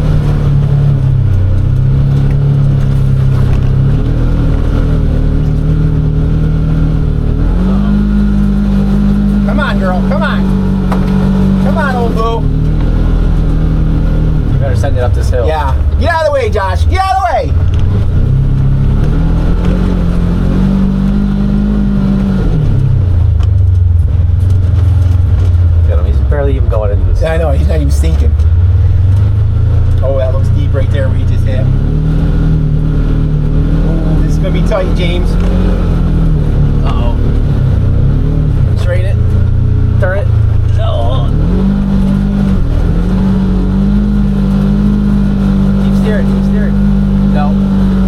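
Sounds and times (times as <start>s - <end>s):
utility vehicle engine under load: 0.0s - 48.0s.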